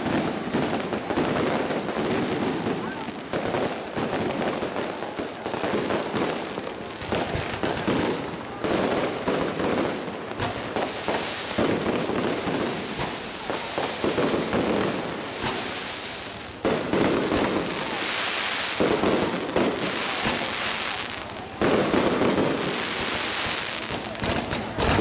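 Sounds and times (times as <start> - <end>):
fireworks crackling bangs: 0.0 - 25.0.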